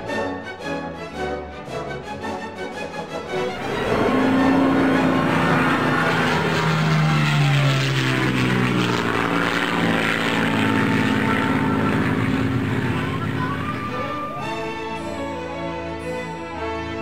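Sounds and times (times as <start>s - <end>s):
propeller plane engine running: 2.3s - 17.0s.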